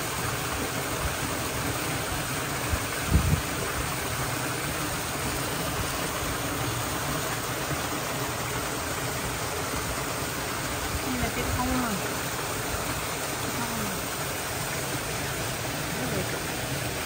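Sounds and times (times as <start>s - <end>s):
fountain water splashing on stones: 0.0s - 17.0s.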